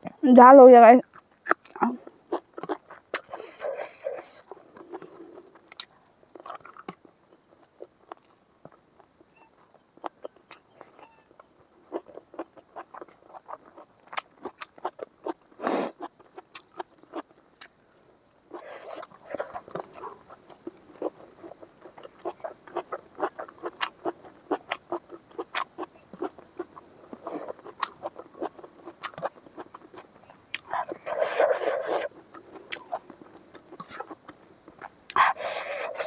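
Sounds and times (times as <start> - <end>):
person chewing with mouth clicks: 1.0 - 11.1, 11.9 - 17.8, 18.5 - 36.0.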